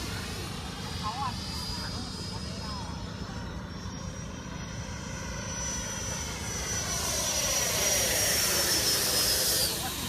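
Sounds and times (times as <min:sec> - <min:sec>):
model jet fan whining: 0:00.0 - 0:10.0.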